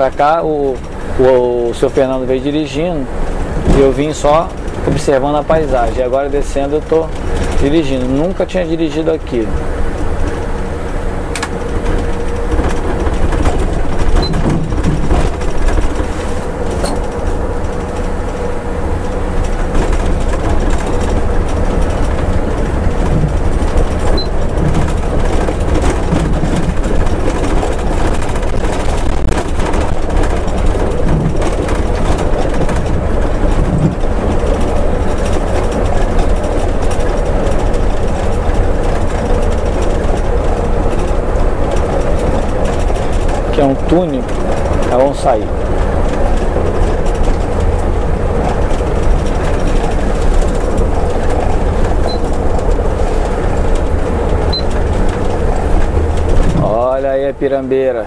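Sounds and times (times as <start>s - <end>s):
bus engine deep rumble: 0.0s - 58.0s.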